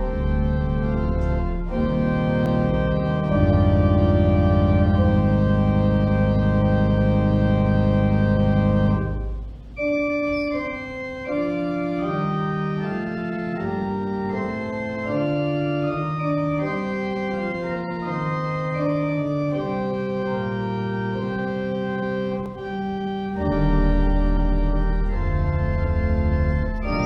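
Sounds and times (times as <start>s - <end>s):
organ playing chords: 0.0s - 27.0s.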